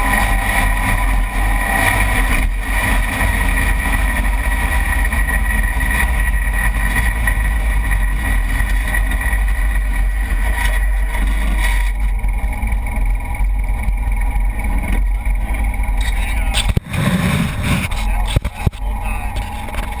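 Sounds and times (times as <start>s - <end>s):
loud engine drone: 0.0s - 20.0s
wind and road noise: 0.0s - 20.0s.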